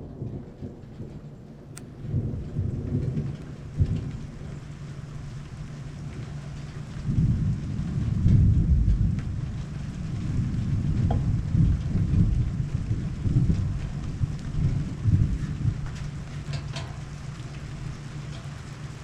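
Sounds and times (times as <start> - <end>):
steady rain: 0.0 - 19.0
thunder rolling: 0.0 - 19.0.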